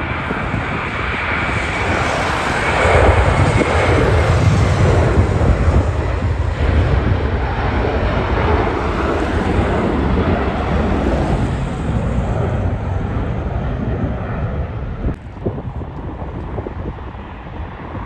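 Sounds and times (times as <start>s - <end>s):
broad rushing noise: 0.0s - 18.0s
jet engines rumbling: 0.0s - 18.0s.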